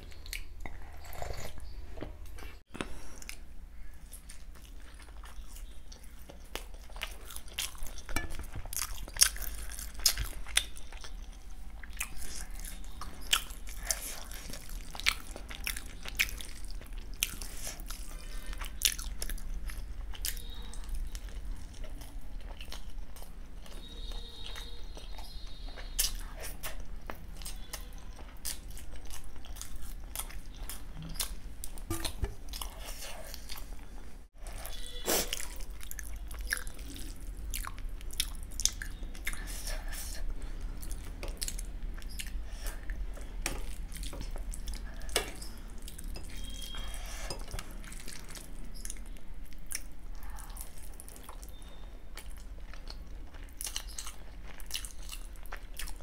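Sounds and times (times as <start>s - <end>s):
crunching and wet chewing: 0.0s - 56.0s.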